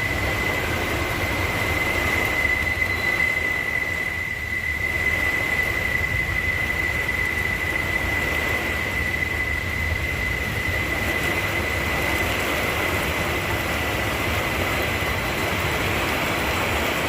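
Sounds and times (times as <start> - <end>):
thin high whine: 0.0 - 17.0.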